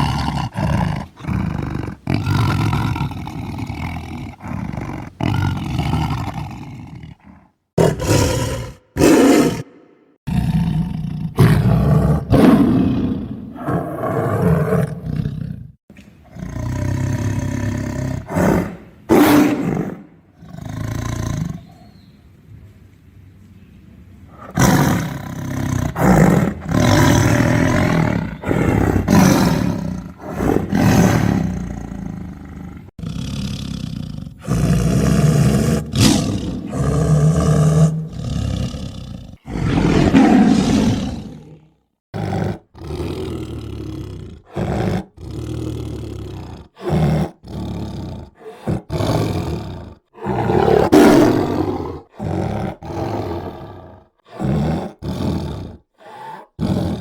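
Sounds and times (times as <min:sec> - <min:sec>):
tiger roaring and growling: 0:00.0 - 0:21.8, 0:24.3 - 0:57.0.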